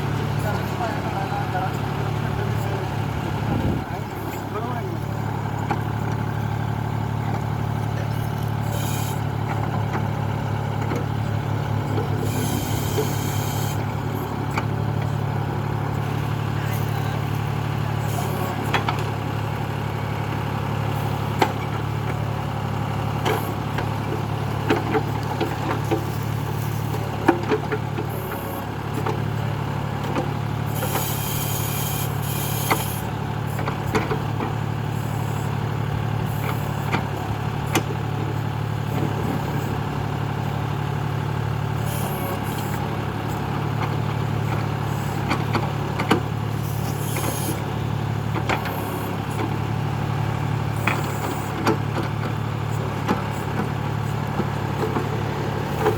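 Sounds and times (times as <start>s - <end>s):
backhoe knocks and clanks: 0.0s - 55.9s
tractor diesel engine running: 0.0s - 55.9s.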